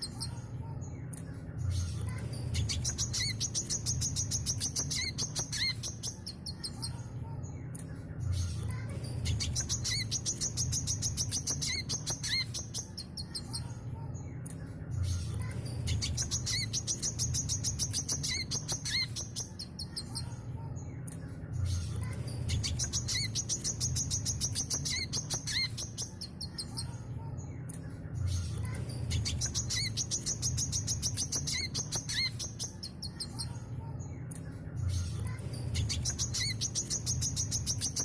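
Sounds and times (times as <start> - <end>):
bird twittering trill: 0.0 - 7.6, 8.3 - 13.8, 15.1 - 20.4, 21.6 - 27.5, 28.2 - 34.2, 34.9 - 38.0.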